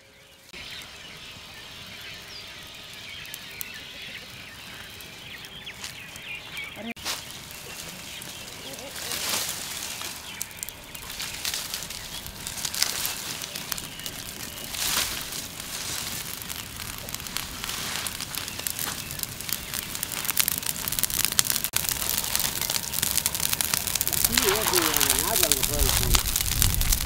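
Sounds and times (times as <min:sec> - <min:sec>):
fire crackling: 0:00.0 - 0:27.0
dry fronds rustling: 0:00.6 - 0:27.0.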